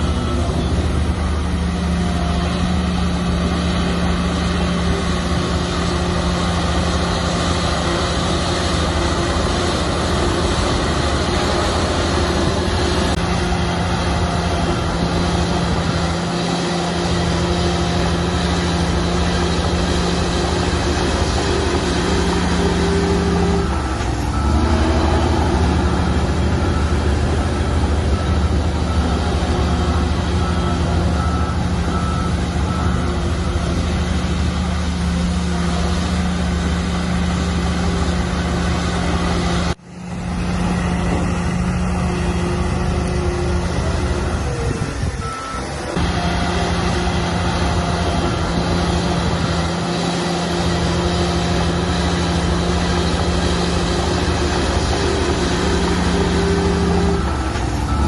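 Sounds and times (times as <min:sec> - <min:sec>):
reversing alarm beeping: 0:00.0 - 0:39.8, 0:40.7 - 0:58.0
heavy diesel machinery running: 0:00.0 - 0:58.0.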